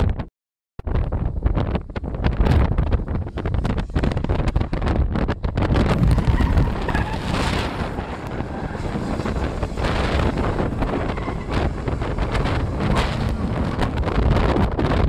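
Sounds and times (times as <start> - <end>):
moving car rumble: 0.0 - 15.0
wind buffeting microphone: 0.0 - 15.0.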